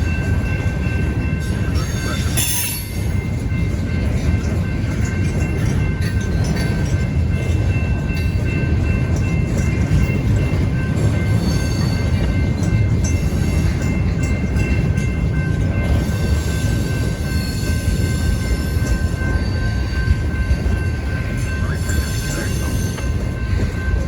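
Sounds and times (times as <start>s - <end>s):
rail cars rumbling: 0.0s - 24.0s.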